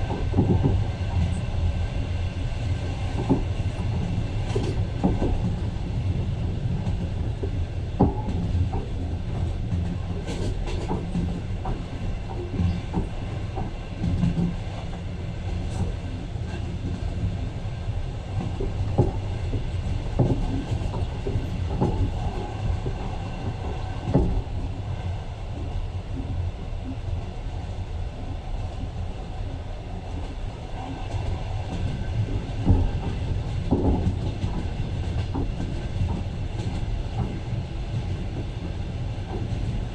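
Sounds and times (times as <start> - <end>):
train rumbling inside carriage: 0.0 - 39.9.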